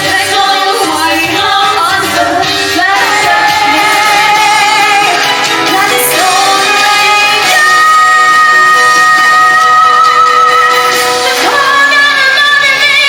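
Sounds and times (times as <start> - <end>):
band playing: 0.0 - 13.0
person singing: 0.0 - 13.0.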